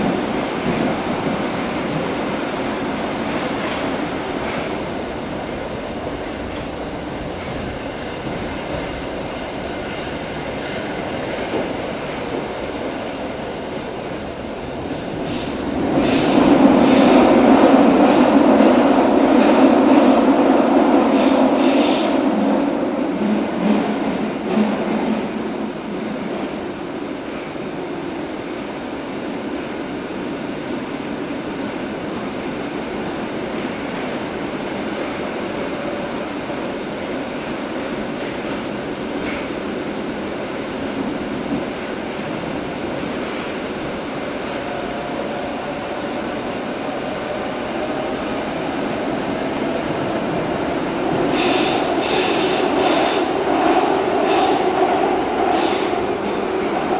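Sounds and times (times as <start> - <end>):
train carriage rumbling and rattling: 0.0 - 56.9.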